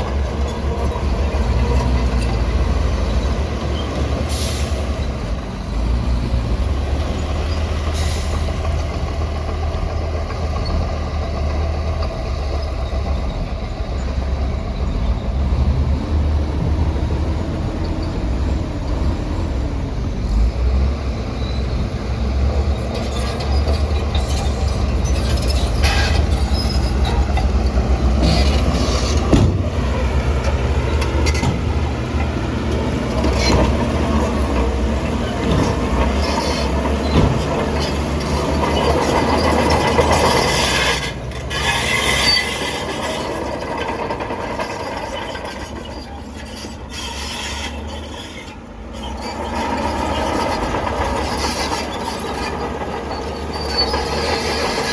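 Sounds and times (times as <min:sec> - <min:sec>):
bulldozer diesel engine running hard: 0:00.0 - 0:54.9
steel tracks clanking and squealing: 0:00.0 - 0:54.9.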